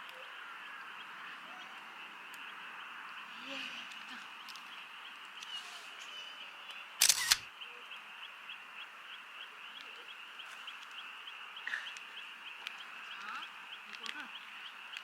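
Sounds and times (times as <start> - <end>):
chorus of calling animals: 0.0 - 15.0.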